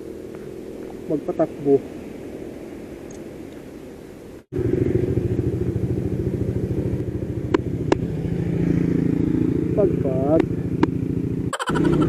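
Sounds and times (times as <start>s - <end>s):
motorcycle engine running: 0.0s - 2.3s, 4.5s - 12.0s.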